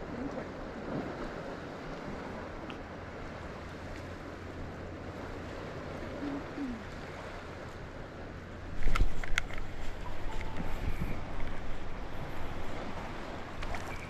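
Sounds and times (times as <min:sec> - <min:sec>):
water washing on shore: 0:00.0 - 0:14.0
wind: 0:00.0 - 0:14.0.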